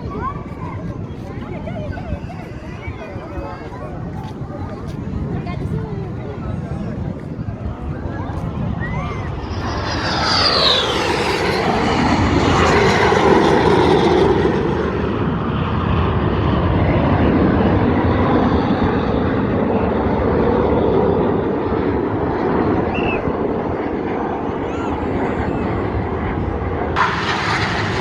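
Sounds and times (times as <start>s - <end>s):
aircraft engine rumble: 0.0s - 28.0s
aircraft passing whine: 0.0s - 28.0s.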